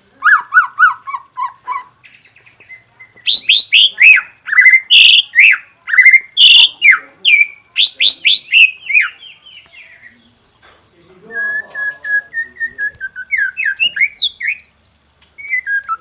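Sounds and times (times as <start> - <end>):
songbird whistling song: 0.2 - 10.4, 11.3 - 16.0.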